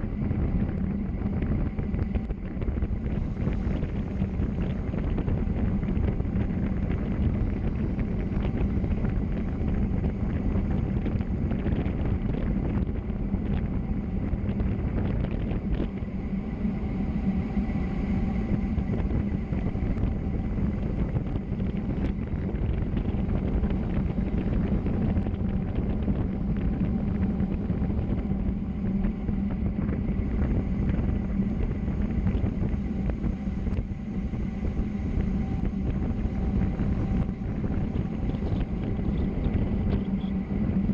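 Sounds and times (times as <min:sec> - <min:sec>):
low drone: 0:00.0 - 0:40.9
wind on microphone: 0:00.0 - 0:40.9.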